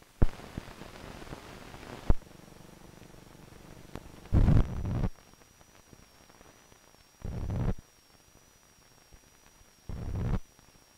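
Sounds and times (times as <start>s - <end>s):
faint hiss: 0.0s - 10.9s
low buzz and crackle bursts: 0.0s - 10.9s
thin steady high whine: 0.0s - 10.9s.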